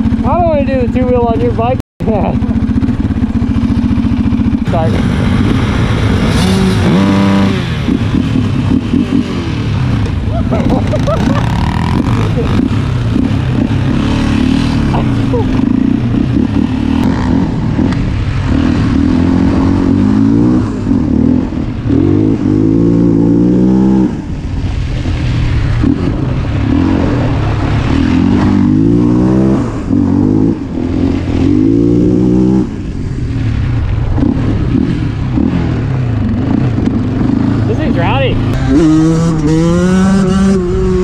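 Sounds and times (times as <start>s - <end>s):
quad engine accelerating: 0.0s - 41.0s.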